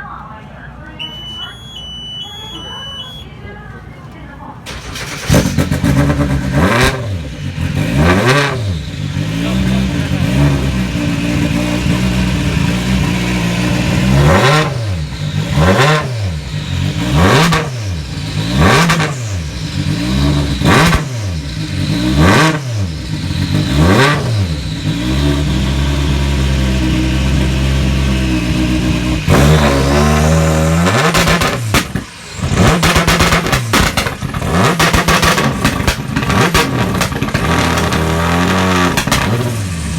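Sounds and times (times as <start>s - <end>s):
rally car engine revving: 4.7s - 39.9s.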